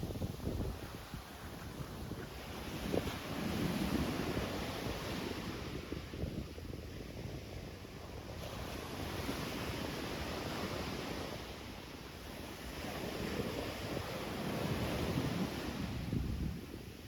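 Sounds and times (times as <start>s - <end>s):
wind buffeting microphone: 0.0s - 11.6s, 12.5s - 17.0s.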